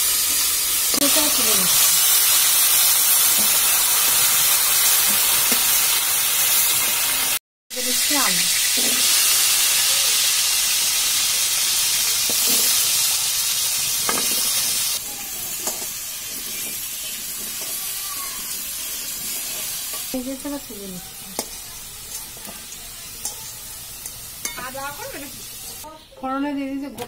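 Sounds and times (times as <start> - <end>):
potatoes sizzling in oil: 0.0 - 26.4.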